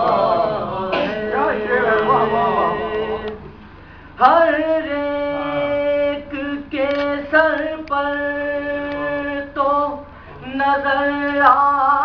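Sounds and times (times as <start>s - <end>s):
man chanting: 0.0s - 3.3s, 4.2s - 12.0s.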